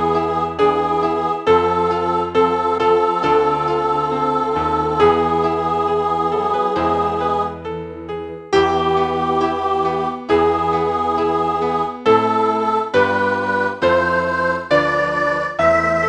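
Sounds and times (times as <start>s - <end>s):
organ-like keyboard chords: 0.0s - 16.0s.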